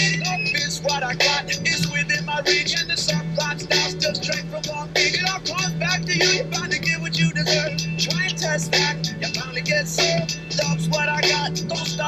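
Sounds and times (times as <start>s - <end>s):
music with quick steady beat: 0.0s - 12.0s.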